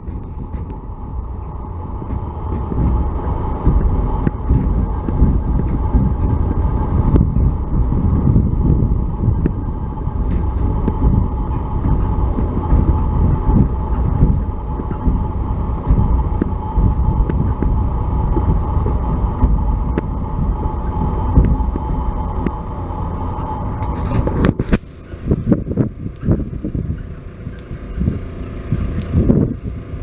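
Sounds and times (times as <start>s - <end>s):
train wheels rumbling and rattling: 0.0s - 30.0s.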